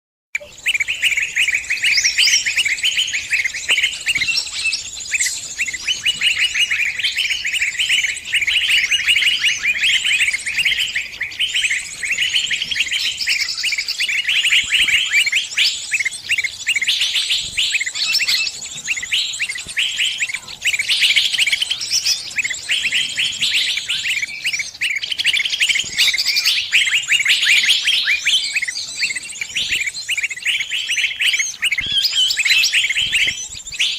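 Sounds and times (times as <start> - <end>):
birds twittering: 0.4 - 33.9.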